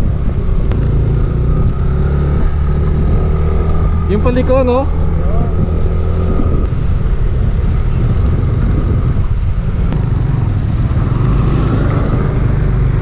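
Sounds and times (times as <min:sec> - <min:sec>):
motor scooter engine drone: 0:00.0 - 0:13.0
road and wind noise: 0:00.0 - 0:13.0.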